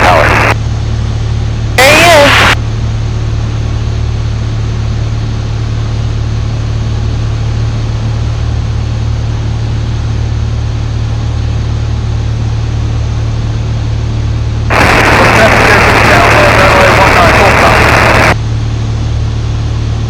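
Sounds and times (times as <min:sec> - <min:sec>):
airplane engine droning in cabin: 0:00.0 - 0:20.0.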